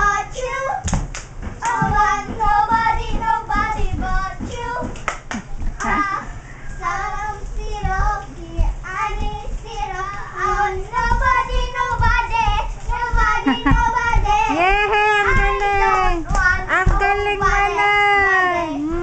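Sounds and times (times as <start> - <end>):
young child singing: 0.0 - 1.0, 1.6 - 5.0, 5.6 - 19.0.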